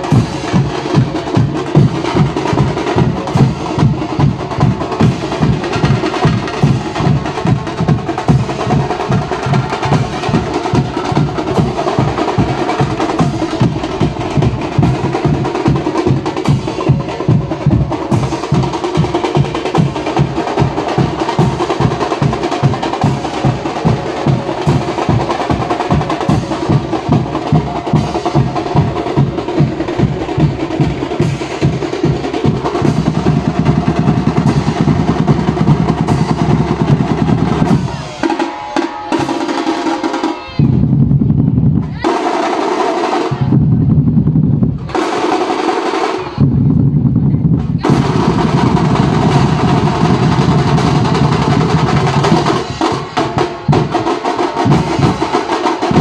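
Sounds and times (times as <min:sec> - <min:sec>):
rattling tasha drum strokes: 0:00.0 - 0:41.0, 0:47.5 - 0:56.0
dhol drums beating: 0:00.0 - 0:56.0.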